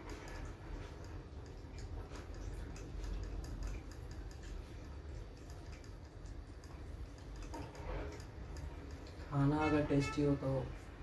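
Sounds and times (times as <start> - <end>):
people chewing and eating by hand: 0.0 - 9.4
low steady hum: 0.0 - 11.0.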